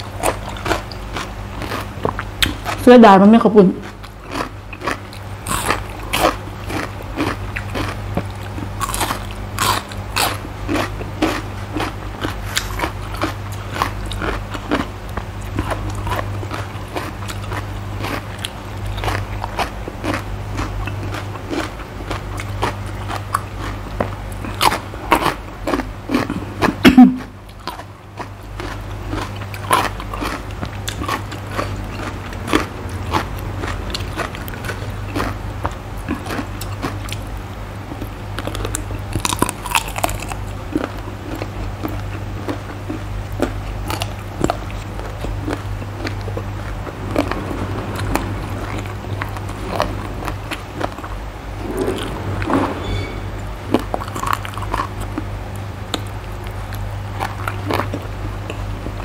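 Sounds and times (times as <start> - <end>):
crunchy chewing of raw vegetables: 0.0 - 52.4, 53.7 - 59.0
steady low hum: 0.0 - 59.0.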